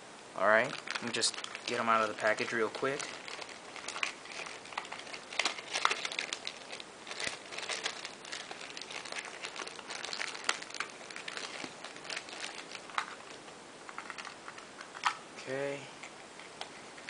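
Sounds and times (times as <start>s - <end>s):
plastic packaging crinkling: 0.4s - 15.2s.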